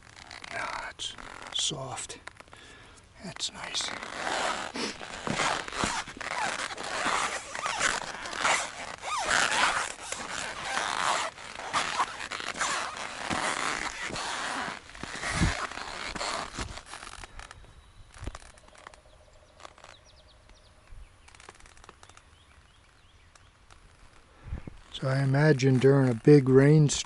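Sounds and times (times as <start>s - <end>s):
rough scraping and rustling: 0.0s - 20.2s, 23.7s - 27.0s.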